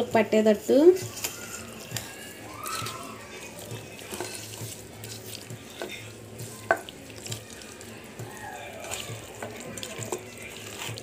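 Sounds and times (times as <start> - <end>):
hand squishing wet chicken: 1.0 - 11.0.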